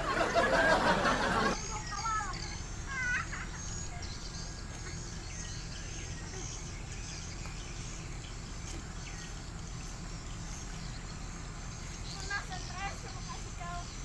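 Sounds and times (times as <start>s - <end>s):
outdoor background noise: 0.0s - 14.0s
faint bird chirps: 1.5s - 14.0s.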